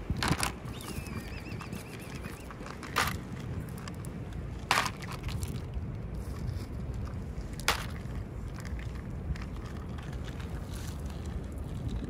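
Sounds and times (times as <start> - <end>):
animal crunching dry kibble: 0.2 - 12.0.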